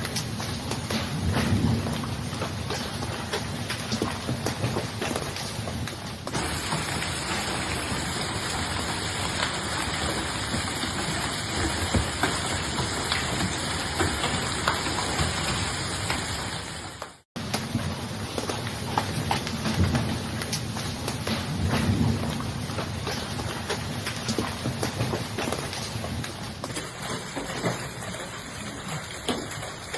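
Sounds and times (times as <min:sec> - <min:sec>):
hailstones striking: 0:00.0 - 0:29.9
heavy rain pelting hard surfaces: 0:00.0 - 0:29.9.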